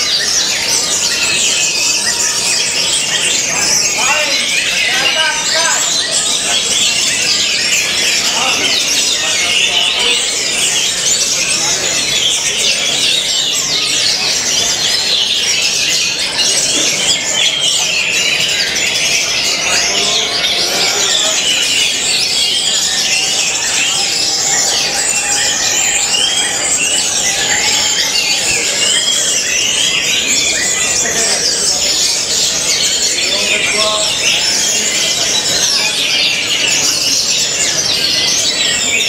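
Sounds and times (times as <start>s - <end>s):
thrushes singing: 0.0s - 39.0s.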